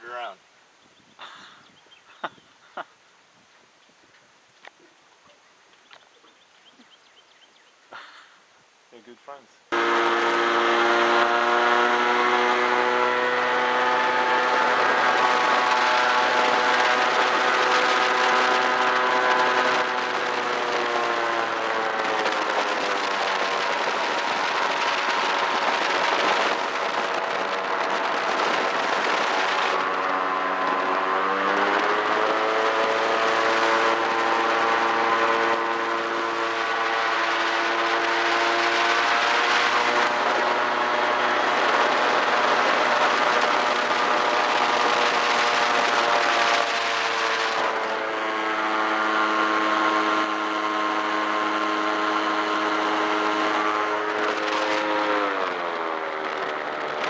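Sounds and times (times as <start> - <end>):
airboat engine and propeller drone: 4.6 - 57.0.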